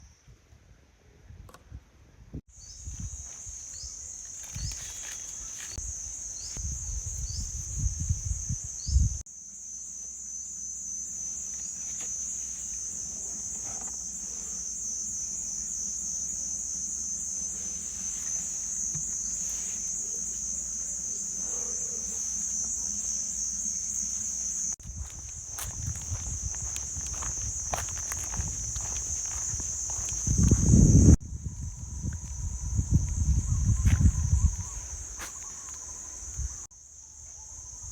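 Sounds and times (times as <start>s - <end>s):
insects trilling: 2.5s - 37.9s.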